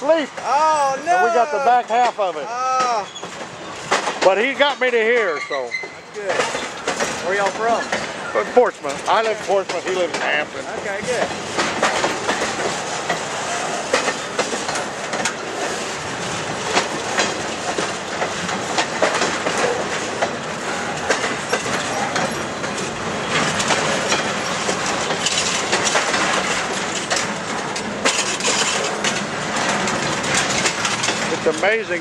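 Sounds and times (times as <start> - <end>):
train rumble: 0.0 - 32.0
train wheels clacking over rail joints: 0.0 - 32.0.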